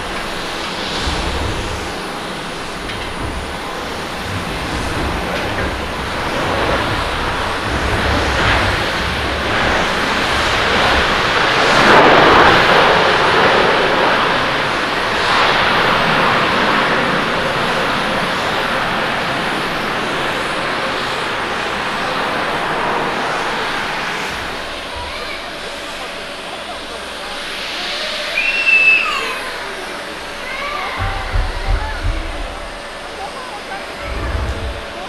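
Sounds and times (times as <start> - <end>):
jet engines rushing: 0.0 - 35.0.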